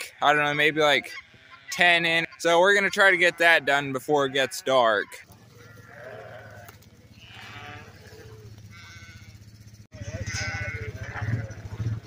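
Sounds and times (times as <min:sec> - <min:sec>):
sheep and lambs bleating: 0:00.0 - 0:11.9.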